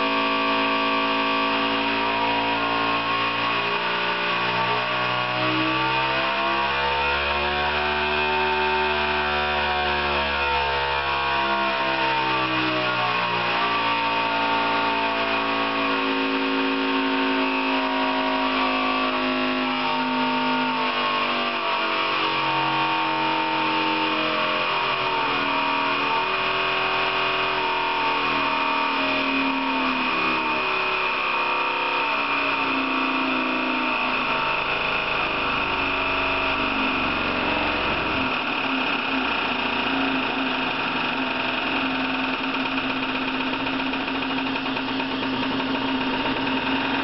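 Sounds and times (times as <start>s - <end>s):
testing machine humming and whining: 0.0s - 47.0s.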